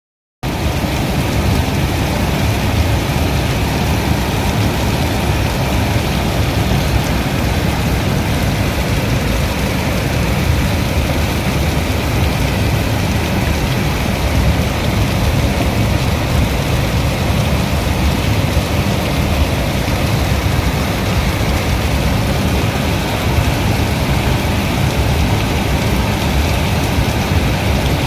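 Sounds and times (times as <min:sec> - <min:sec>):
heavy rain pouring: 0:00.4 - 0:28.0.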